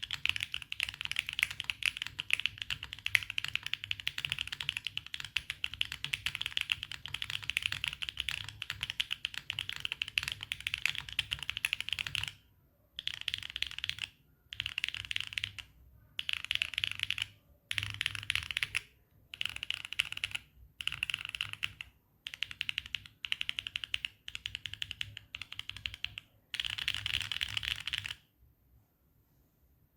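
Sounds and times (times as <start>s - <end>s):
mechanical keyboard typing: 0.0s - 12.4s, 13.0s - 28.2s.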